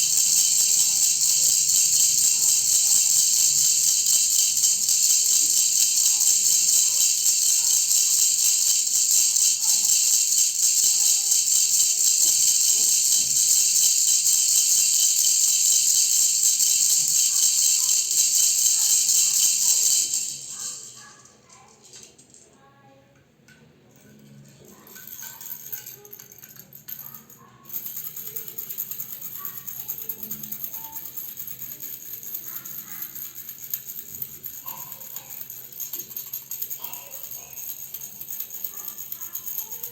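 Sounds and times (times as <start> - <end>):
baby rattle shaken: 0.0 - 22.5, 24.0 - 39.9.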